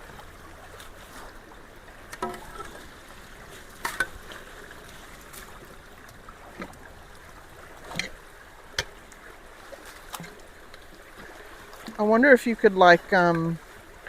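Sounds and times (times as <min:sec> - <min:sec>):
floodwater running through culvert: 0:00.0 - 0:14.0.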